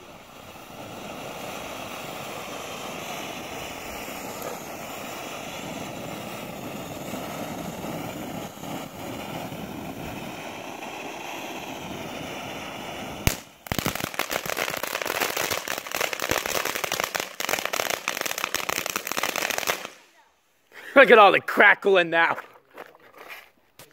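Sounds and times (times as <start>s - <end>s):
firework crackling: 0.0s - 20.3s
firework fountain hissing: 0.0s - 23.9s.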